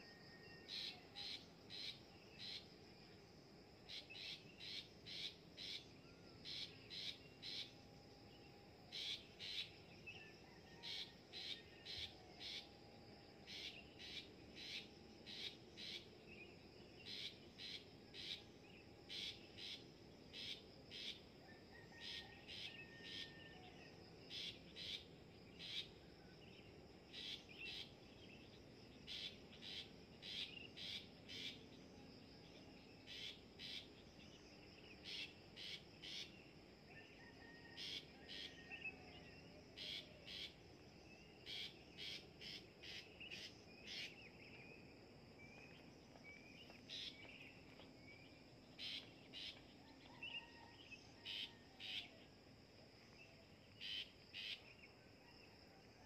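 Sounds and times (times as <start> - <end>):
faint insect hum: 0.0 - 56.0.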